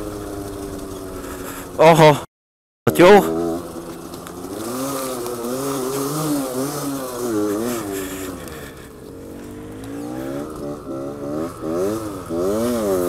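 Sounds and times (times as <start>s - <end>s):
small vehicle engine revving: 0.0s - 2.2s, 2.9s - 13.0s.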